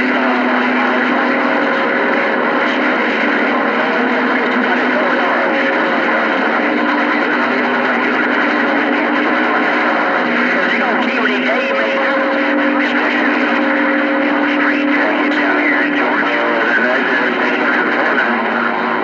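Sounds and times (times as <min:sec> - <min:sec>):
garbled distant radio signals: 0:00.0 - 0:19.0
low steady radio tones: 0:00.0 - 0:19.0
radio hiss with band noise: 0:00.0 - 0:19.0.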